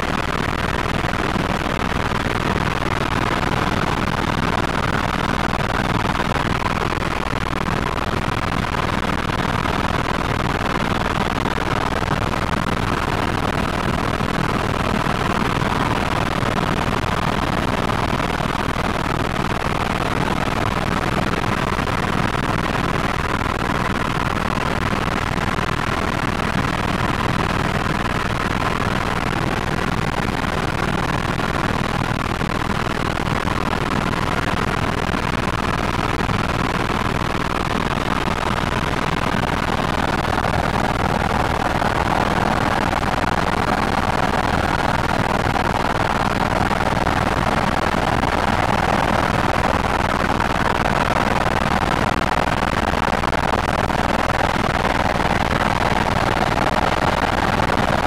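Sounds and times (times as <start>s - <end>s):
helicopter engine and rotors drone: 0.0s - 58.0s.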